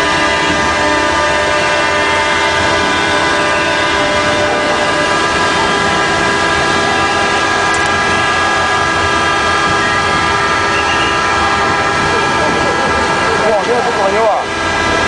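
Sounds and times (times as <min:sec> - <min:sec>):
rushing water: 0:00.0 - 0:15.0
ship horns blasting: 0:00.0 - 0:15.0.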